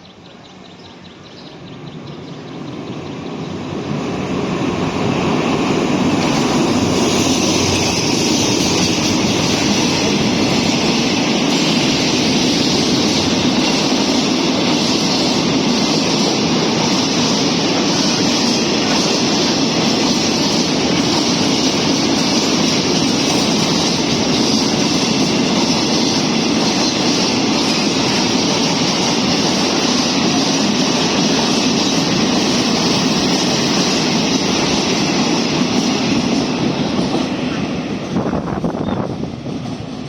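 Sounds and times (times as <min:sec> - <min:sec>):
train wheels on rails: 0:00.0 - 0:40.0.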